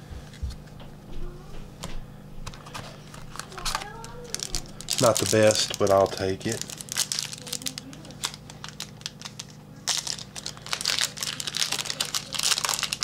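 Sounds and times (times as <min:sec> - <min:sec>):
foil wrapper crinkling: 0:02.4 - 0:13.0.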